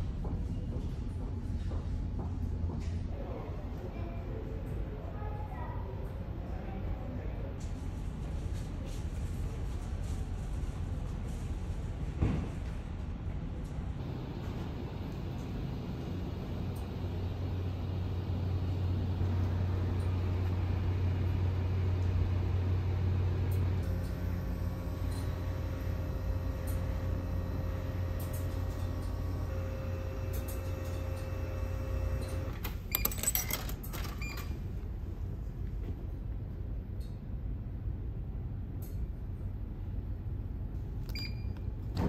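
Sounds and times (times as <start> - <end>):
low machinery hum: 0.0 - 42.0.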